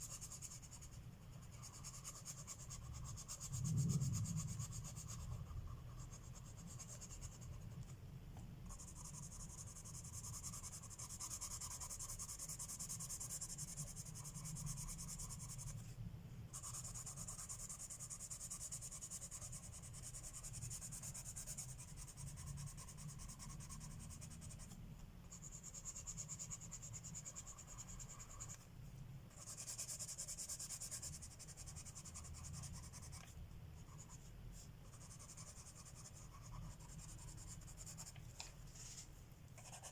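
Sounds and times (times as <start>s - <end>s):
colored pencil scratching on paper: 0.0s - 8.0s, 8.6s - 28.7s, 29.3s - 39.9s
low steady hum: 0.0s - 39.9s.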